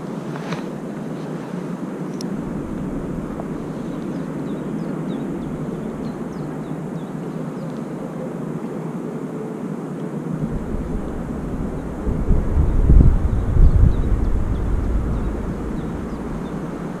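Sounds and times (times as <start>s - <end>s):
low outdoor rumble: 0.0s - 9.1s, 10.1s - 17.0s
small birds chirping: 0.0s - 17.0s.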